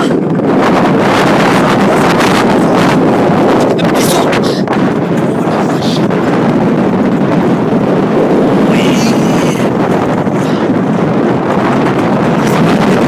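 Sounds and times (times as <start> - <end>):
coaster sled running on steel rail: 0.0 - 13.0
wind buffeting microphone: 0.0 - 13.0.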